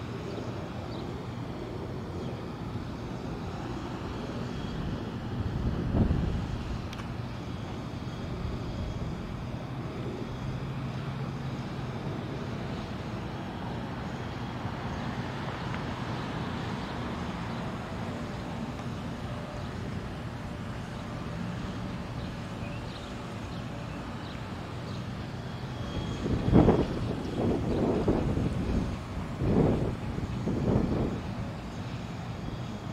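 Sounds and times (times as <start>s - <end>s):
distant traffic rumble: 0.0s - 32.9s.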